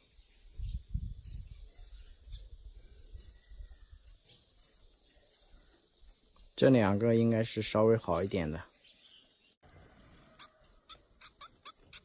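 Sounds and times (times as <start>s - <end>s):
small birds chirping: 0.0s - 9.6s, 10.4s - 12.0s.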